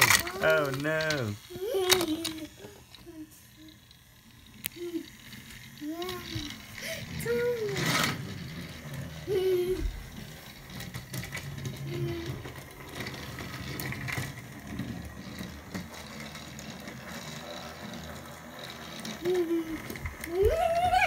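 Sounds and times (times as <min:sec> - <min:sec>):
toy train motor whirring: 0:00.0 - 0:21.0.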